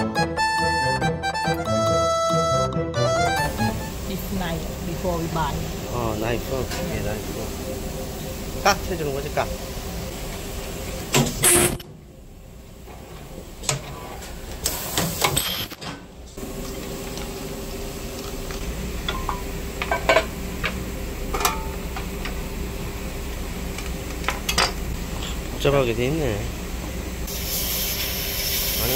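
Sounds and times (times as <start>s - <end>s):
steady low hum: 3.3s - 14.7s, 16.0s - 28.9s.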